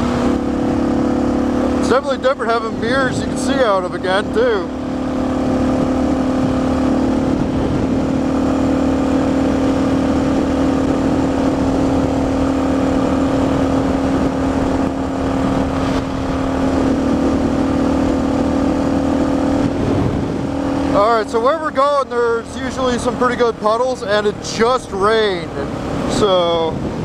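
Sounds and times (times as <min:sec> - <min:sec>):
motorcycle engine cruising: 0:00.0 - 0:27.0
wind noise: 0:02.6 - 0:27.0.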